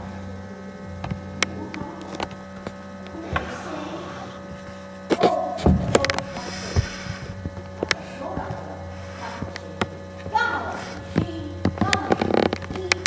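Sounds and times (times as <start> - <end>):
electrical mains hum: 0.0 - 13.0
clicks: 0.2 - 13.0
knocks and bumps: 0.5 - 13.0.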